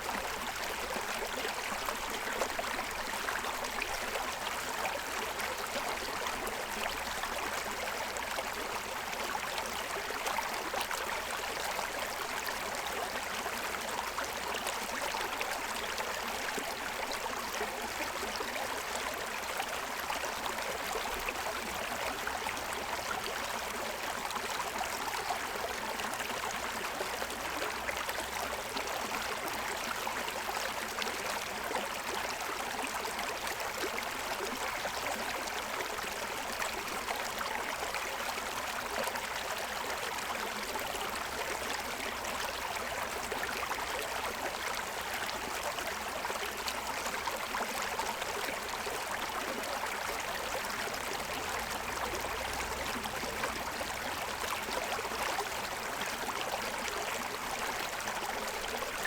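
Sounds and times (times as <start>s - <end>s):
stream running over stones: 0.0s - 59.0s.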